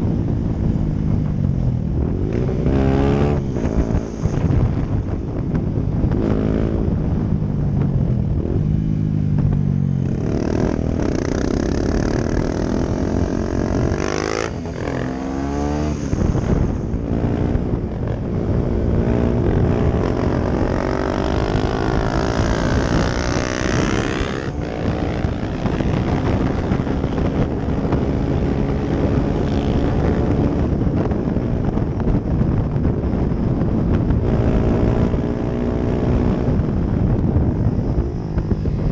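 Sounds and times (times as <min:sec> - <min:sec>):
motorcycle revving and passing: 0:00.0 - 0:38.9.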